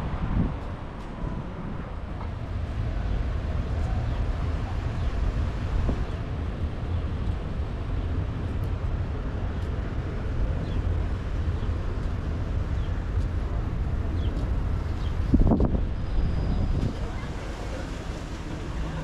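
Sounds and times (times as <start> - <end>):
low outdoor rumble: 0.0 - 19.0
wind buffeting microphone: 0.0 - 19.0.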